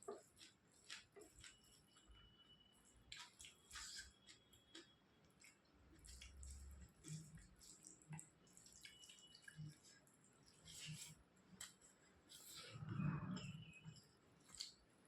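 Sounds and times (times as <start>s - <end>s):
wet chewing and smacking: 0.0s - 15.0s.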